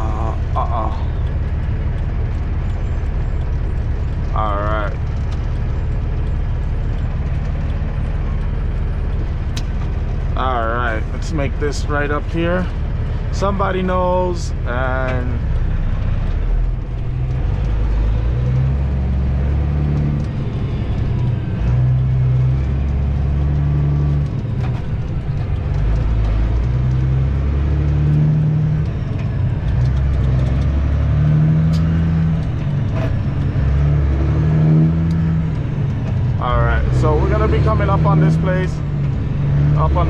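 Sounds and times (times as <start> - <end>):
truck diesel engine shifting gears: 0.0 - 40.0.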